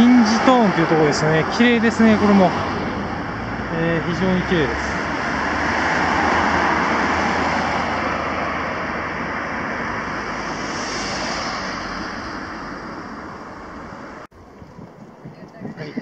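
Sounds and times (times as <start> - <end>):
passing vehicle roar: 0.0 - 14.3.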